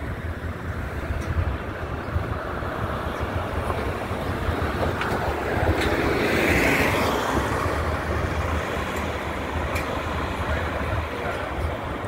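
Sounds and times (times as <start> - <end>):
bus driving past: 0.0 - 12.0
street traffic: 0.0 - 12.0.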